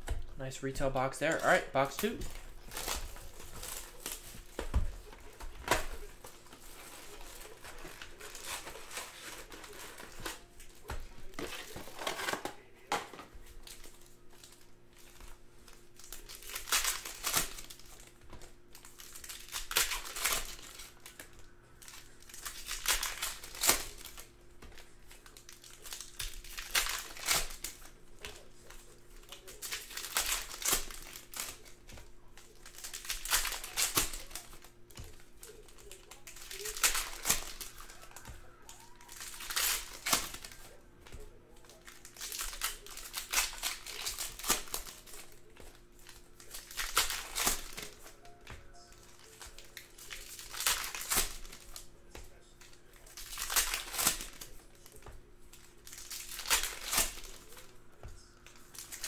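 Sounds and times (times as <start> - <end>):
plastic wrappers crinkling and tearing: 0.0 - 59.0.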